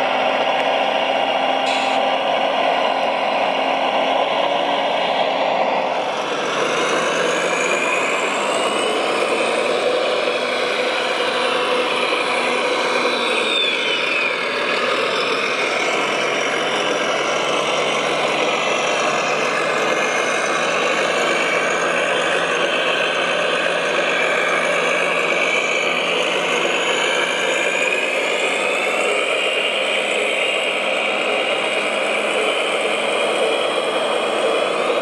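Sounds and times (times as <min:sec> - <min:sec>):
model truck motor drone: 0:00.0 - 0:35.0.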